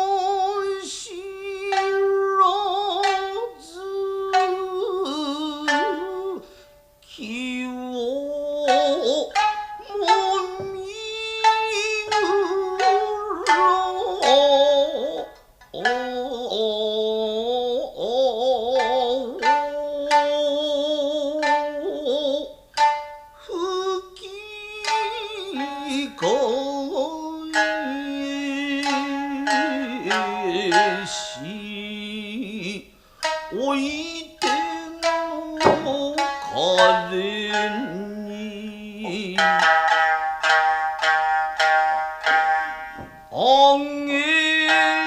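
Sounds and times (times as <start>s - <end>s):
shamisen plucking: 0.0s - 45.0s
wavering held melody: 0.0s - 45.0s.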